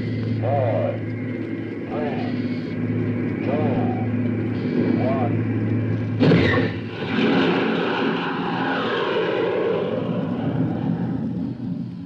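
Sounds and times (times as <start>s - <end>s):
missile engine roaring: 0.0s - 12.0s.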